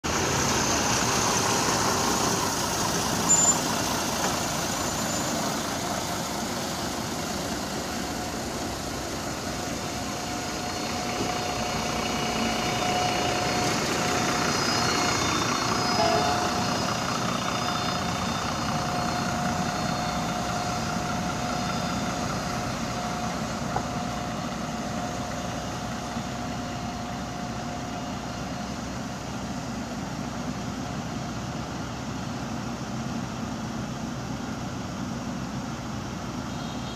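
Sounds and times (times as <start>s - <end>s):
heavy vehicle engines: 0.0s - 36.9s
thin steady whine: 0.1s - 36.9s.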